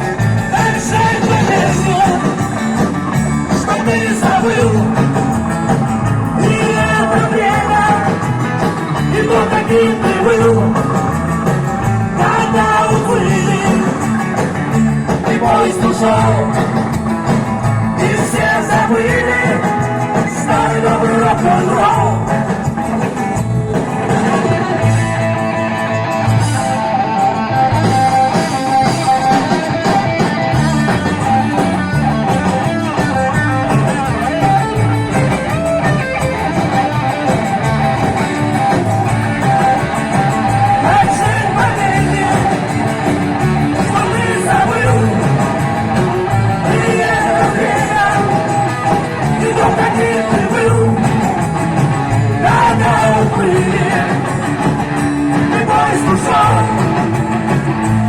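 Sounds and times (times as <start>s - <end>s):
rock and roll band playing: 0.0s - 58.0s.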